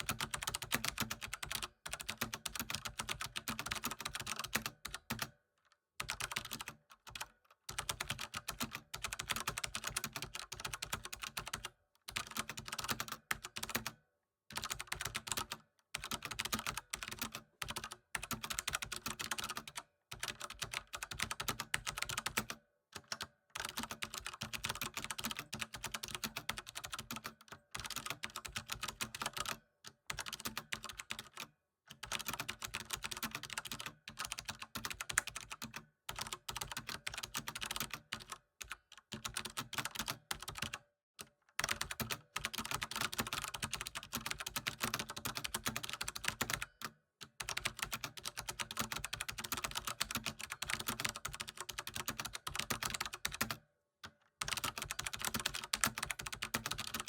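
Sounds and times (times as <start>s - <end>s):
typing on computer keyboard: 0.0s - 5.4s, 6.0s - 57.0s.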